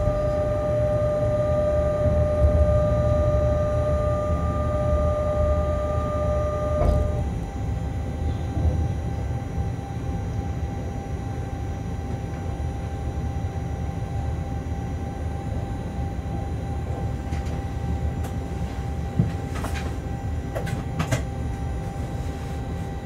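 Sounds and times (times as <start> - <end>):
constant hum: 0.0 - 23.0.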